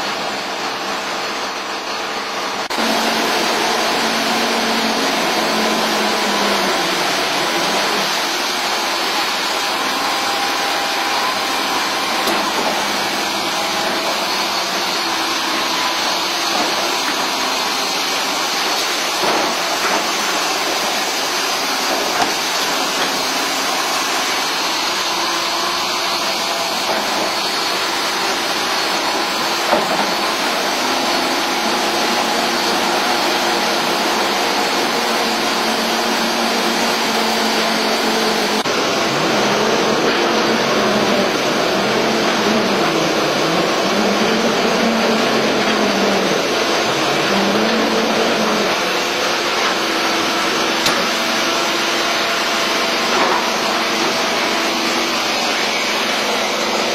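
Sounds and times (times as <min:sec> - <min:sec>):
drilling rig hissing: 0:00.0 - 0:56.9.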